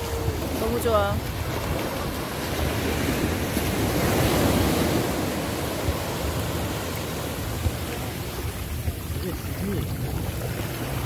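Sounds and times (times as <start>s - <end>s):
waves washing up a beach: 0.0s - 11.0s
wind rumble on microphone: 0.0s - 11.0s.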